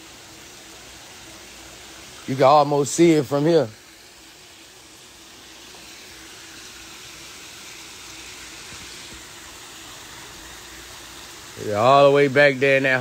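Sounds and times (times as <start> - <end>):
faint steady hum: 0.0 - 13.0
running water rushing: 0.0 - 13.0.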